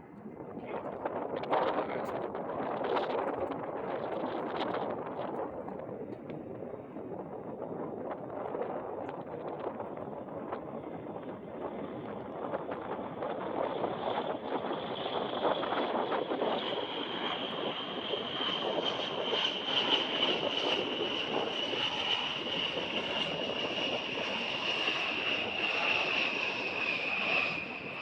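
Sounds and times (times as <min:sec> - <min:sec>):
jet engines running: 0:00.0 - 0:28.0
wind on microphone: 0:00.0 - 0:28.0.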